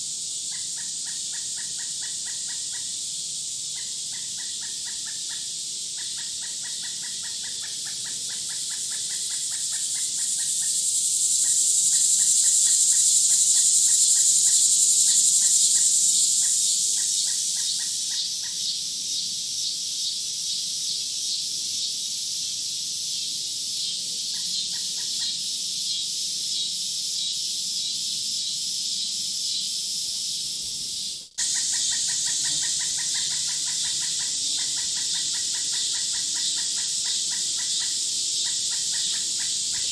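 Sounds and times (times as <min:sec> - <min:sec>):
high shrill insect buzz: 0:00.0 - 0:39.9
rapid insect chirps: 0:00.0 - 0:39.9.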